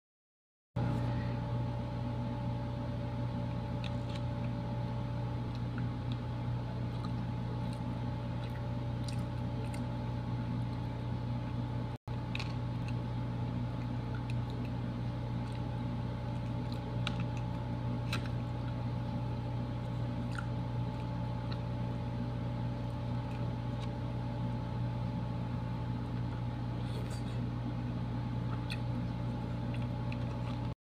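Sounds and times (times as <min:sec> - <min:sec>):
low machine hum: 0:00.8 - 0:30.8
soft eating sounds: 0:03.3 - 0:30.8.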